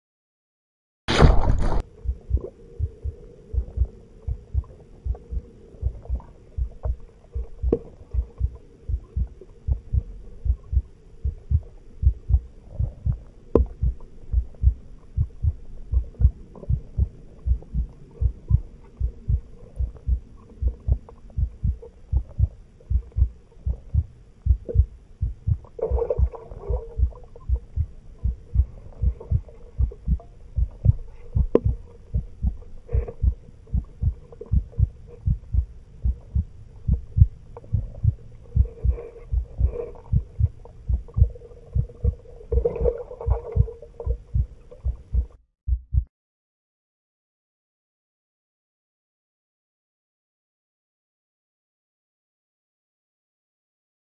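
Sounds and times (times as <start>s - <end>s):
low regular thumping: 1.1s - 46.1s
faint steady hum: 1.4s - 45.4s.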